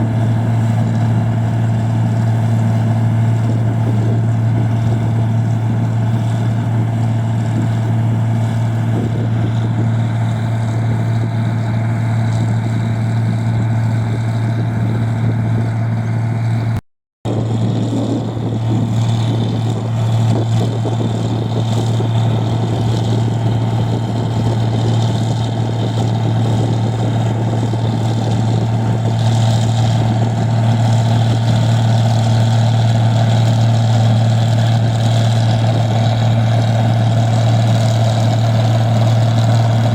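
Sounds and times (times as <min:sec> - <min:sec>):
milling machine engine droning: 0:00.0 - 0:39.9.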